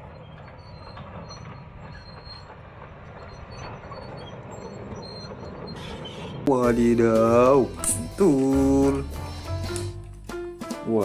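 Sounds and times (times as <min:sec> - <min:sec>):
diesel engine rumble: 0:00.0 - 0:10.3.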